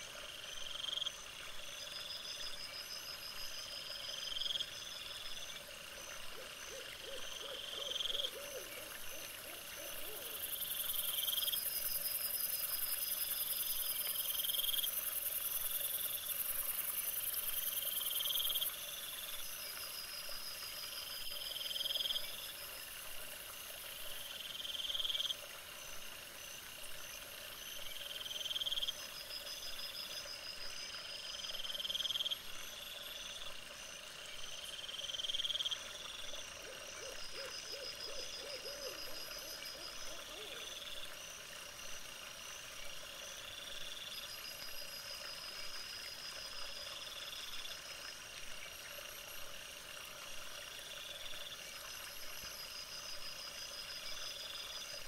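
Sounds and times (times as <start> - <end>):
high insect-like hiss: 0.0 - 55.0.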